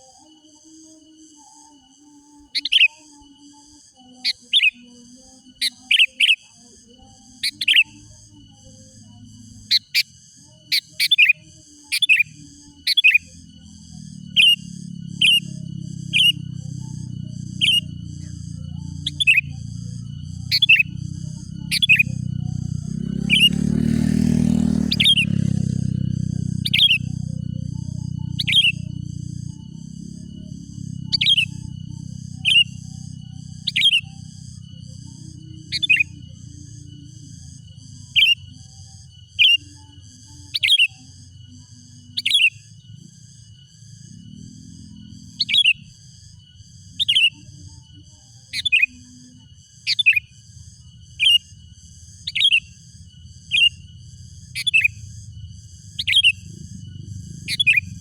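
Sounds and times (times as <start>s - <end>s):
faint high-pitched ringing: 0.0s - 58.0s
steady low hum: 0.0s - 58.0s.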